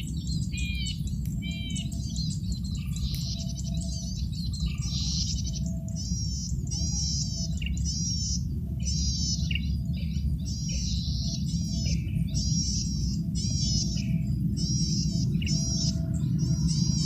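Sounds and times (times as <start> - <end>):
bird singing buzzy notes: 0.0 - 17.0
steady low hum: 0.0 - 17.0.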